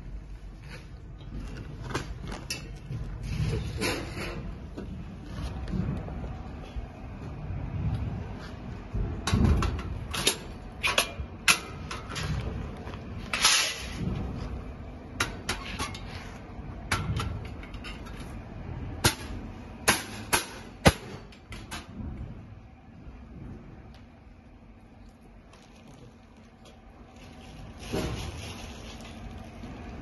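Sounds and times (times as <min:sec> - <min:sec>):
low rumbling handling noise: 0:00.0 - 0:19.9, 0:20.6 - 0:30.0.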